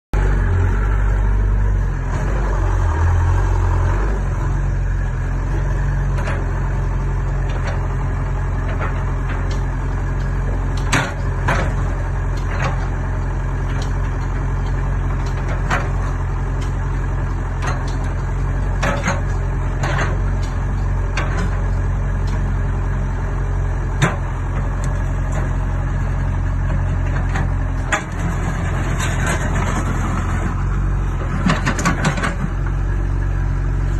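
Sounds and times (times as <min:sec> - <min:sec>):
excavator engine idling: 0:00.2 - 0:33.9.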